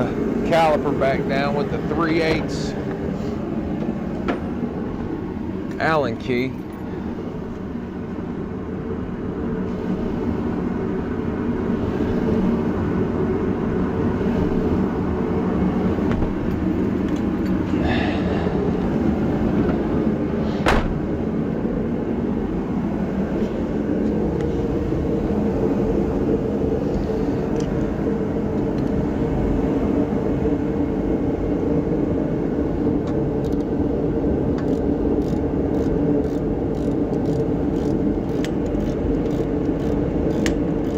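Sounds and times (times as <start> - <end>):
machine humming drone: 0.0 - 40.9.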